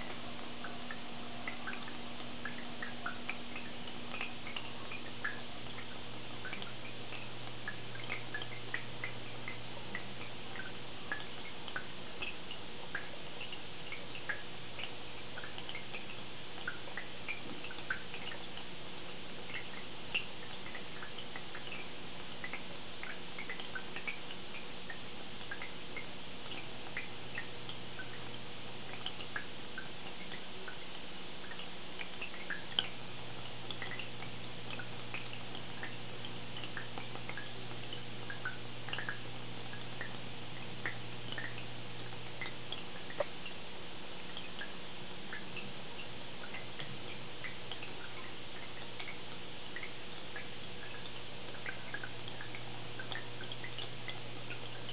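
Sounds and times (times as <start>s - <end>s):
filter humming: 0.0s - 54.9s
small drips and pops: 0.0s - 54.9s
water trickling and bubbling: 0.0s - 54.9s.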